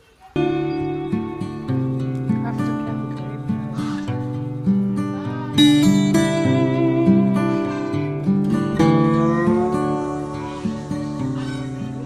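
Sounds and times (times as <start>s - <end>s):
acoustic guitar strumming and plucking: 0.4s - 12.0s.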